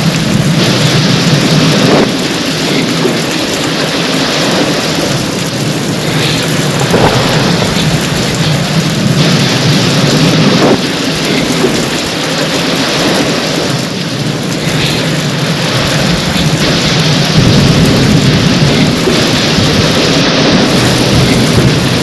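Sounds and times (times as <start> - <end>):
heavy rain pouring: 0.0 - 22.0
low thunder rumbling: 0.0 - 22.0.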